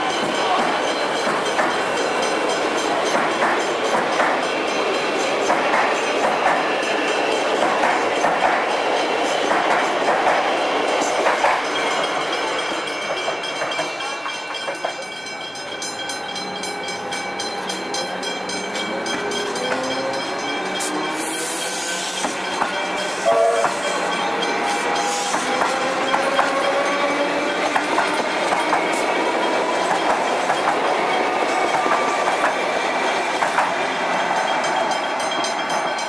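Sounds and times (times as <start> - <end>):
train wheels clicking over rail joints: 0.0 - 16.1, 17.4 - 36.0.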